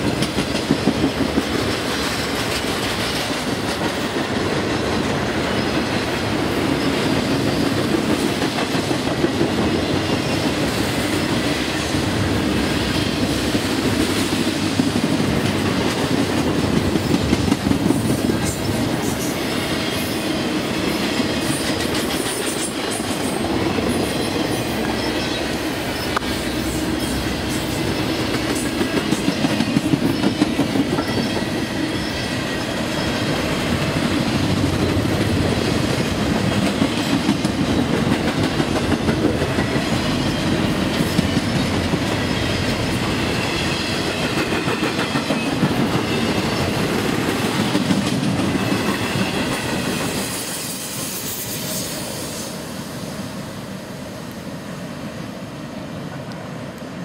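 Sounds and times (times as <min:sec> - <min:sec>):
train wheels clicking over rail joints: 0:00.0 - 0:52.0
train rumble: 0:00.0 - 0:57.0.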